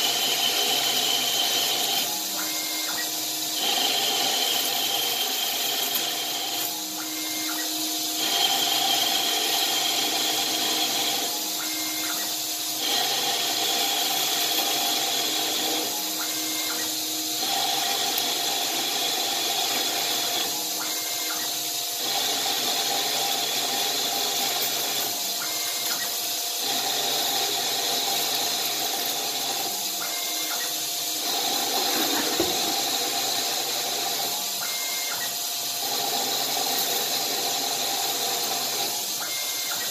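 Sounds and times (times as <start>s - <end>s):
cutting tool shearing metal chips: 0.0s - 39.9s
metal lathe whining: 0.0s - 39.9s.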